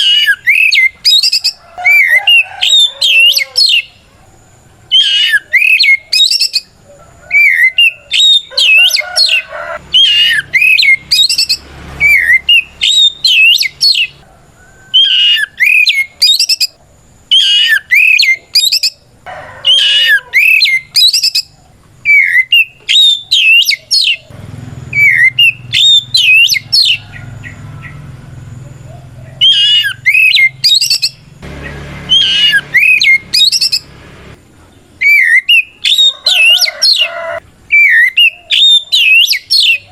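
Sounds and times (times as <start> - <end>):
magpie-robin singing: 0.0 - 4.0, 4.9 - 14.2, 15.0 - 19.0, 19.7 - 24.3, 24.9 - 28.0, 29.3 - 33.9, 35.0 - 37.1, 37.7 - 39.9.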